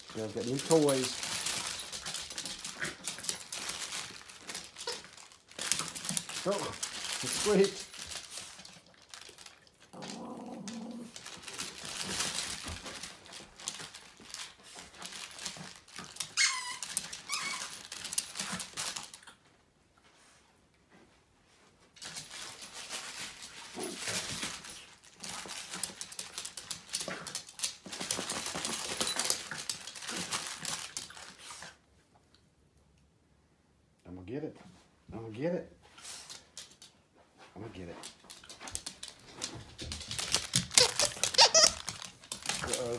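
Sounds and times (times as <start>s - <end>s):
plush toy rustling and crinkling: 0.0s - 32.1s, 35.8s - 42.9s.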